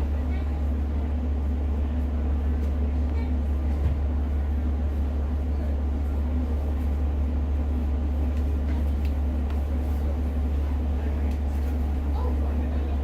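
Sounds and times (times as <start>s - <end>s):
diesel train drone: 0.0s - 13.0s
wheels rumbling on rail: 0.0s - 13.0s.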